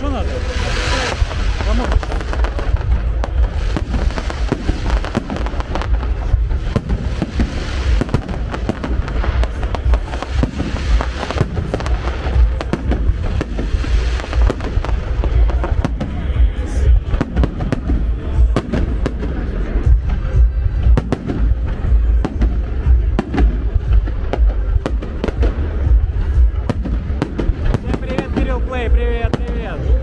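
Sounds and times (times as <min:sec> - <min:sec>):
fireworks bangs and crackles: 0:00.0 - 0:30.0
low rumble: 0:00.0 - 0:30.0.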